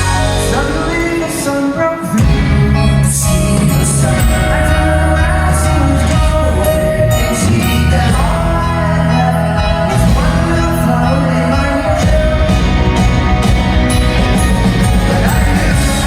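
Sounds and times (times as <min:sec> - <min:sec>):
live pop-rock band playing: 0:00.0 - 0:16.0
person singing: 0:00.0 - 0:16.0.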